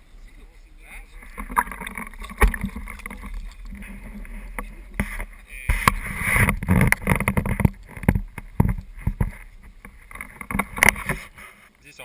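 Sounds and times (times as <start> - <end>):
water splashing: 0.0 - 11.5
net and fish knocking on boat: 1.3 - 11.3.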